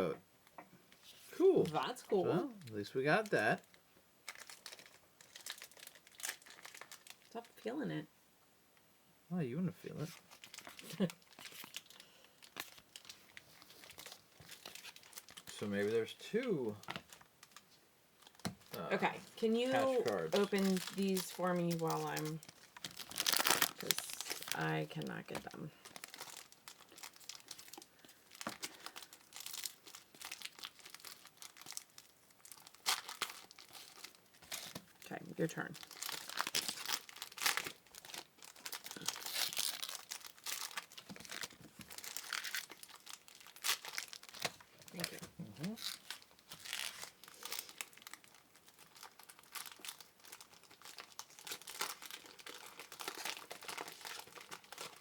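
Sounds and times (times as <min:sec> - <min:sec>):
card pack wrappers crinkling: 0:01.6 - 0:07.4, 0:09.8 - 0:35.0, 0:35.7 - 0:55.0.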